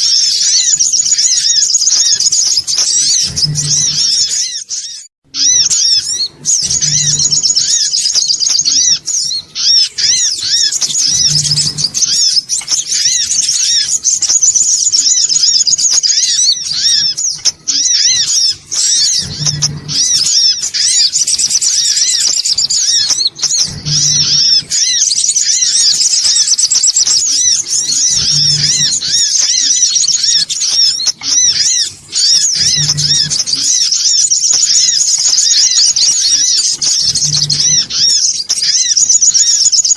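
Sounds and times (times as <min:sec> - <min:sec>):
sunbirds chattering: 0:00.0 - 0:39.9.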